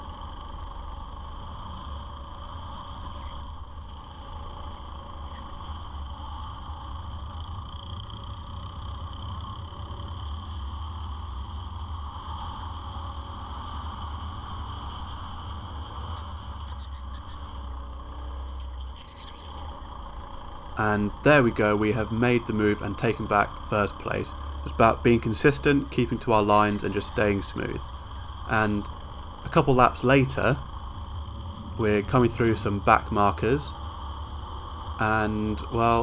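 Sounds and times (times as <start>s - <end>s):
constant low rumble: 0.0s - 36.0s.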